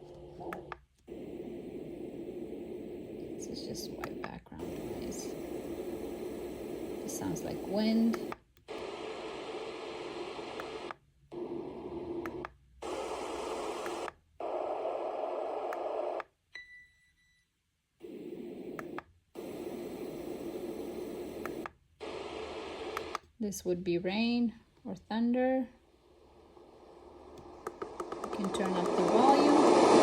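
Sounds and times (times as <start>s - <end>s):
sound machine white noise hiss: 0.0s - 16.2s, 18.0s - 23.3s, 25.8s - 30.0s.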